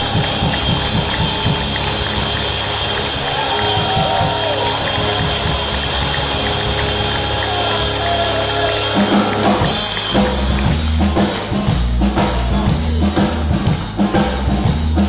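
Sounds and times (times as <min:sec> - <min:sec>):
drums and bass driving beat: 0:00.0 - 0:15.0
live swing band playing: 0:00.0 - 0:15.0.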